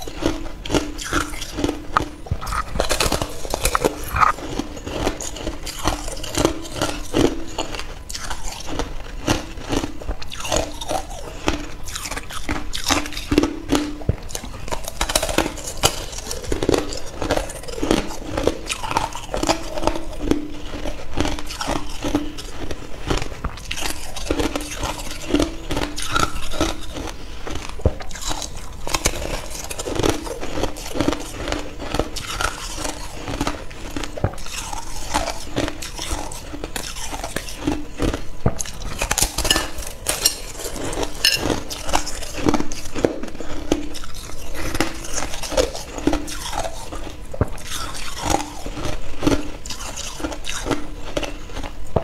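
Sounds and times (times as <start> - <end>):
ice crunching being chewed: 0.0 - 52.0.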